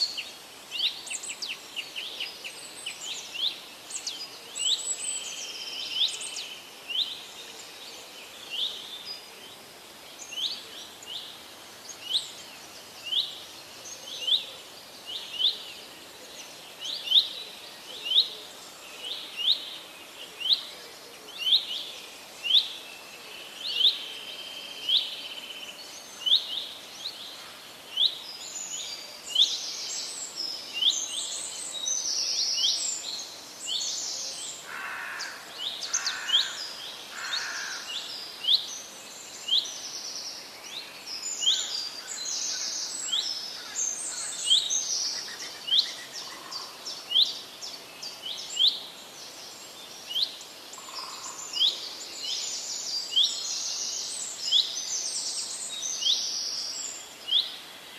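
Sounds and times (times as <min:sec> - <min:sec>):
higher busy birdsong: 0:00.0 - 0:57.9.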